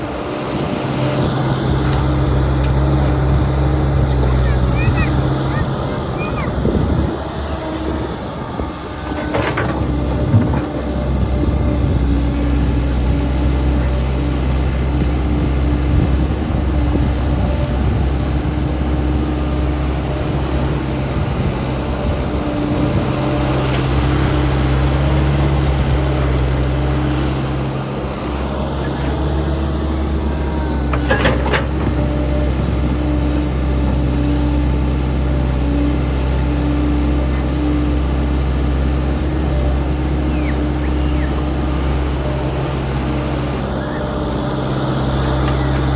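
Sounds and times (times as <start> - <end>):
drilling rig engine running: 0.0 - 45.9.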